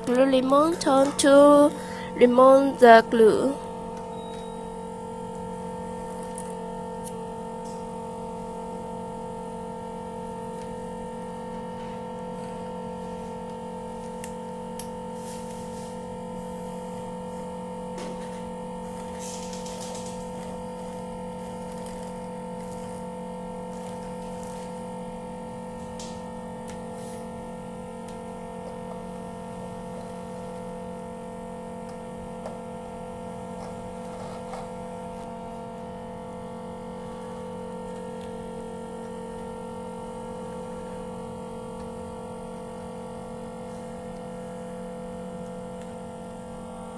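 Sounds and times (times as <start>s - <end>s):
steady electric hum: 0.0s - 46.9s.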